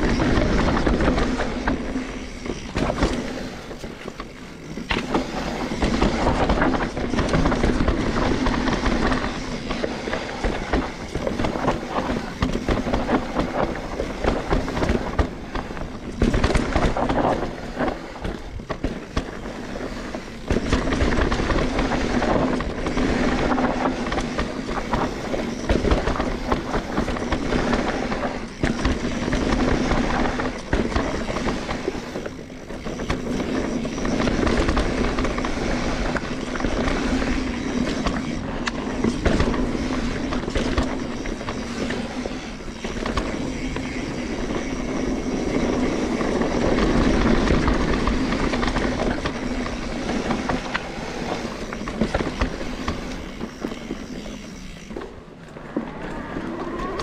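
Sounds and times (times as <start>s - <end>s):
bike rattling over bumps: 0.0s - 57.0s
tyres rolling over dirt: 0.0s - 57.0s.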